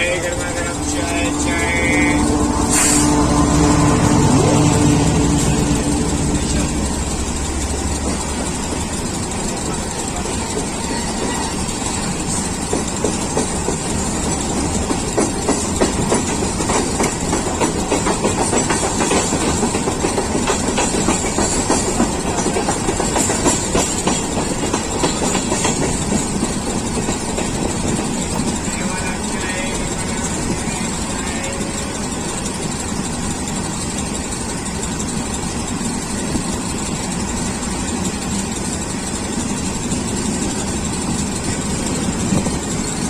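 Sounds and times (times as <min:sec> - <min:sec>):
train wheels clattering on rails: 0:00.0 - 0:43.0.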